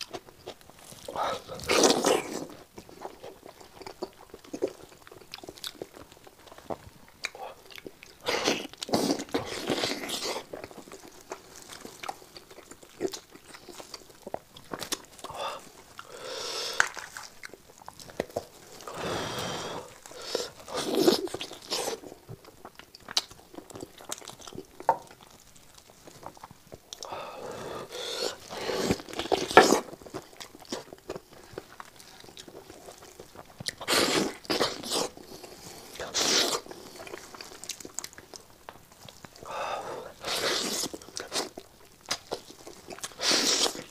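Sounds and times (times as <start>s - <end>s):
chewing and crunching: 0.0s - 43.9s.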